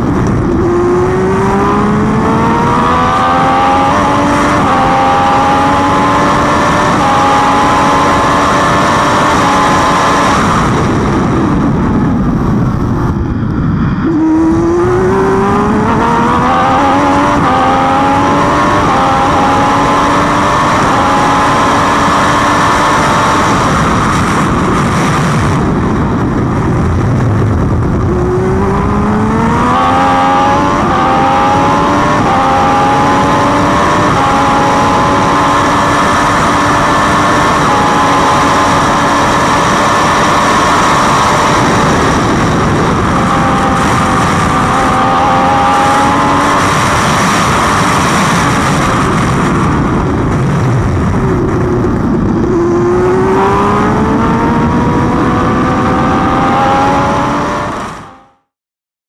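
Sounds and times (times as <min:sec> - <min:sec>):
wind noise rushing: 0:00.0 - 0:58.4
race car engine revving: 0:00.0 - 0:58.5.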